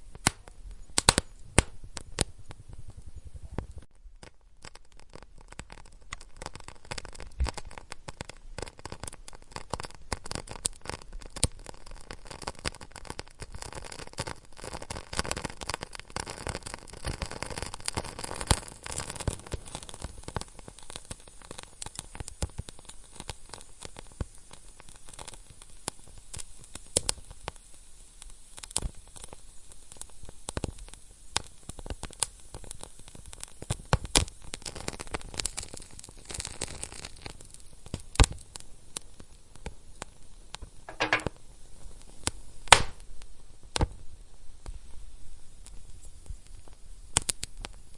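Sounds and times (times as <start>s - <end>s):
fire popping and snapping: 0.0s - 47.9s
hiss of flames: 0.0s - 47.9s
wood fire crackling: 0.0s - 47.9s.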